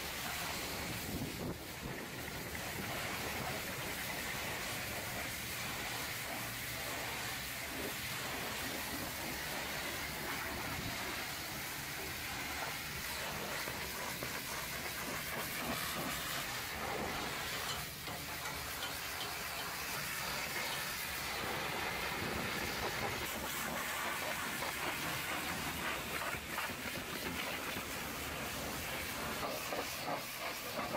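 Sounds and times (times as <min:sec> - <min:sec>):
water jet hissing on metal: 0:00.0 - 0:30.9.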